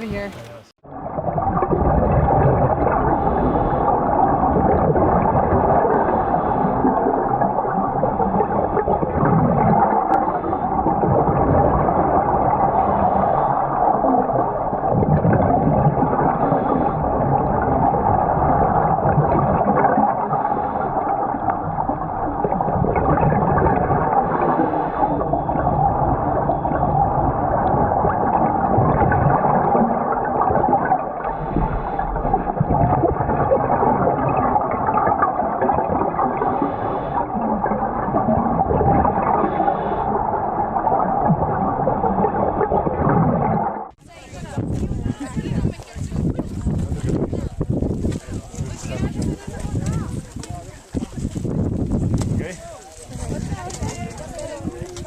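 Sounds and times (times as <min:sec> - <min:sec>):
water sloshing and gurgling: 0:00.0 - 0:55.0.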